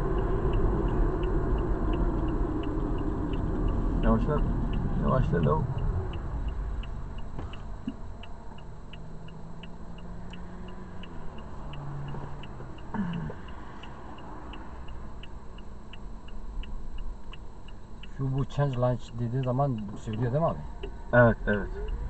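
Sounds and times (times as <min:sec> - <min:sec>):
low car cabin rumble: 0:00.0 - 0:10.4, 0:11.0 - 0:22.0
turn signal clicking: 0:00.0 - 0:22.0.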